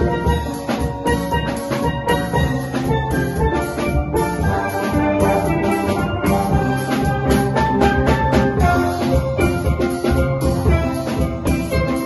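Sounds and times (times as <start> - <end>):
drum kit with cymbals: 0.0 - 12.0
steel pan melody: 0.0 - 12.0.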